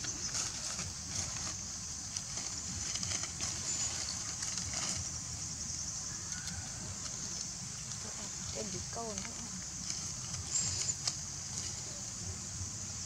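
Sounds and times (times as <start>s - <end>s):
insects hissing: 0.0s - 13.0s
rustles in dry leaves: 0.0s - 13.0s.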